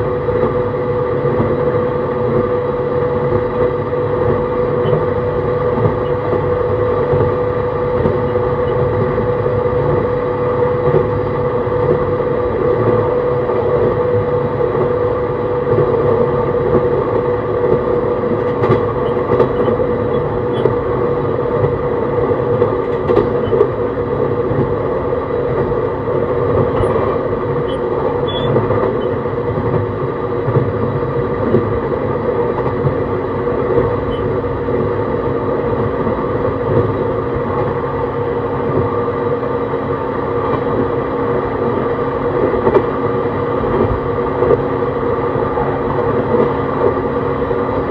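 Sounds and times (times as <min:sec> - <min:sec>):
electric train drive tones: 0:00.0 - 0:47.9
train wheels rumbling on rails: 0:00.0 - 0:47.9.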